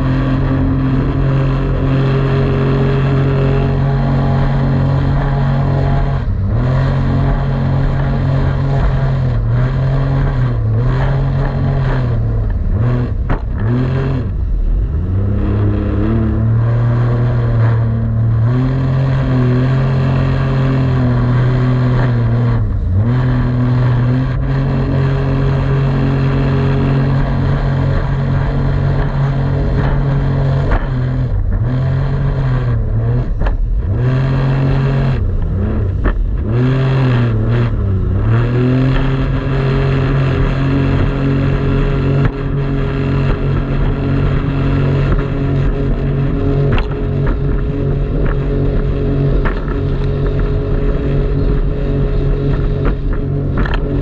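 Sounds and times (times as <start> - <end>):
jet ski engine running: 0.0 - 54.0.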